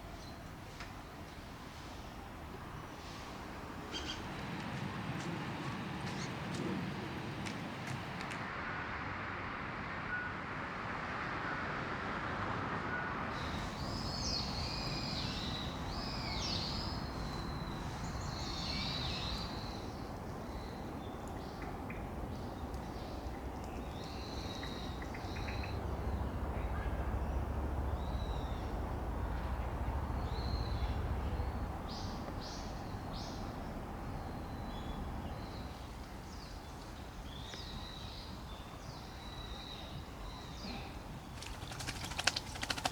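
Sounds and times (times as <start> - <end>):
wild birds chirping: 0.0 - 8.4, 13.4 - 42.9.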